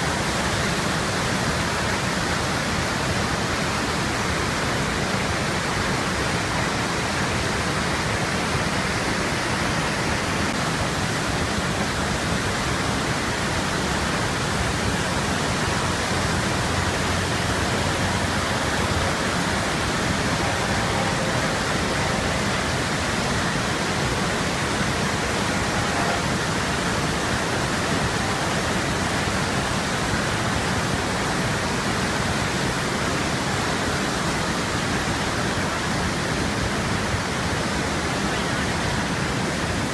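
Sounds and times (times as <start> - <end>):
waterfall pouring: 0.0 - 39.9.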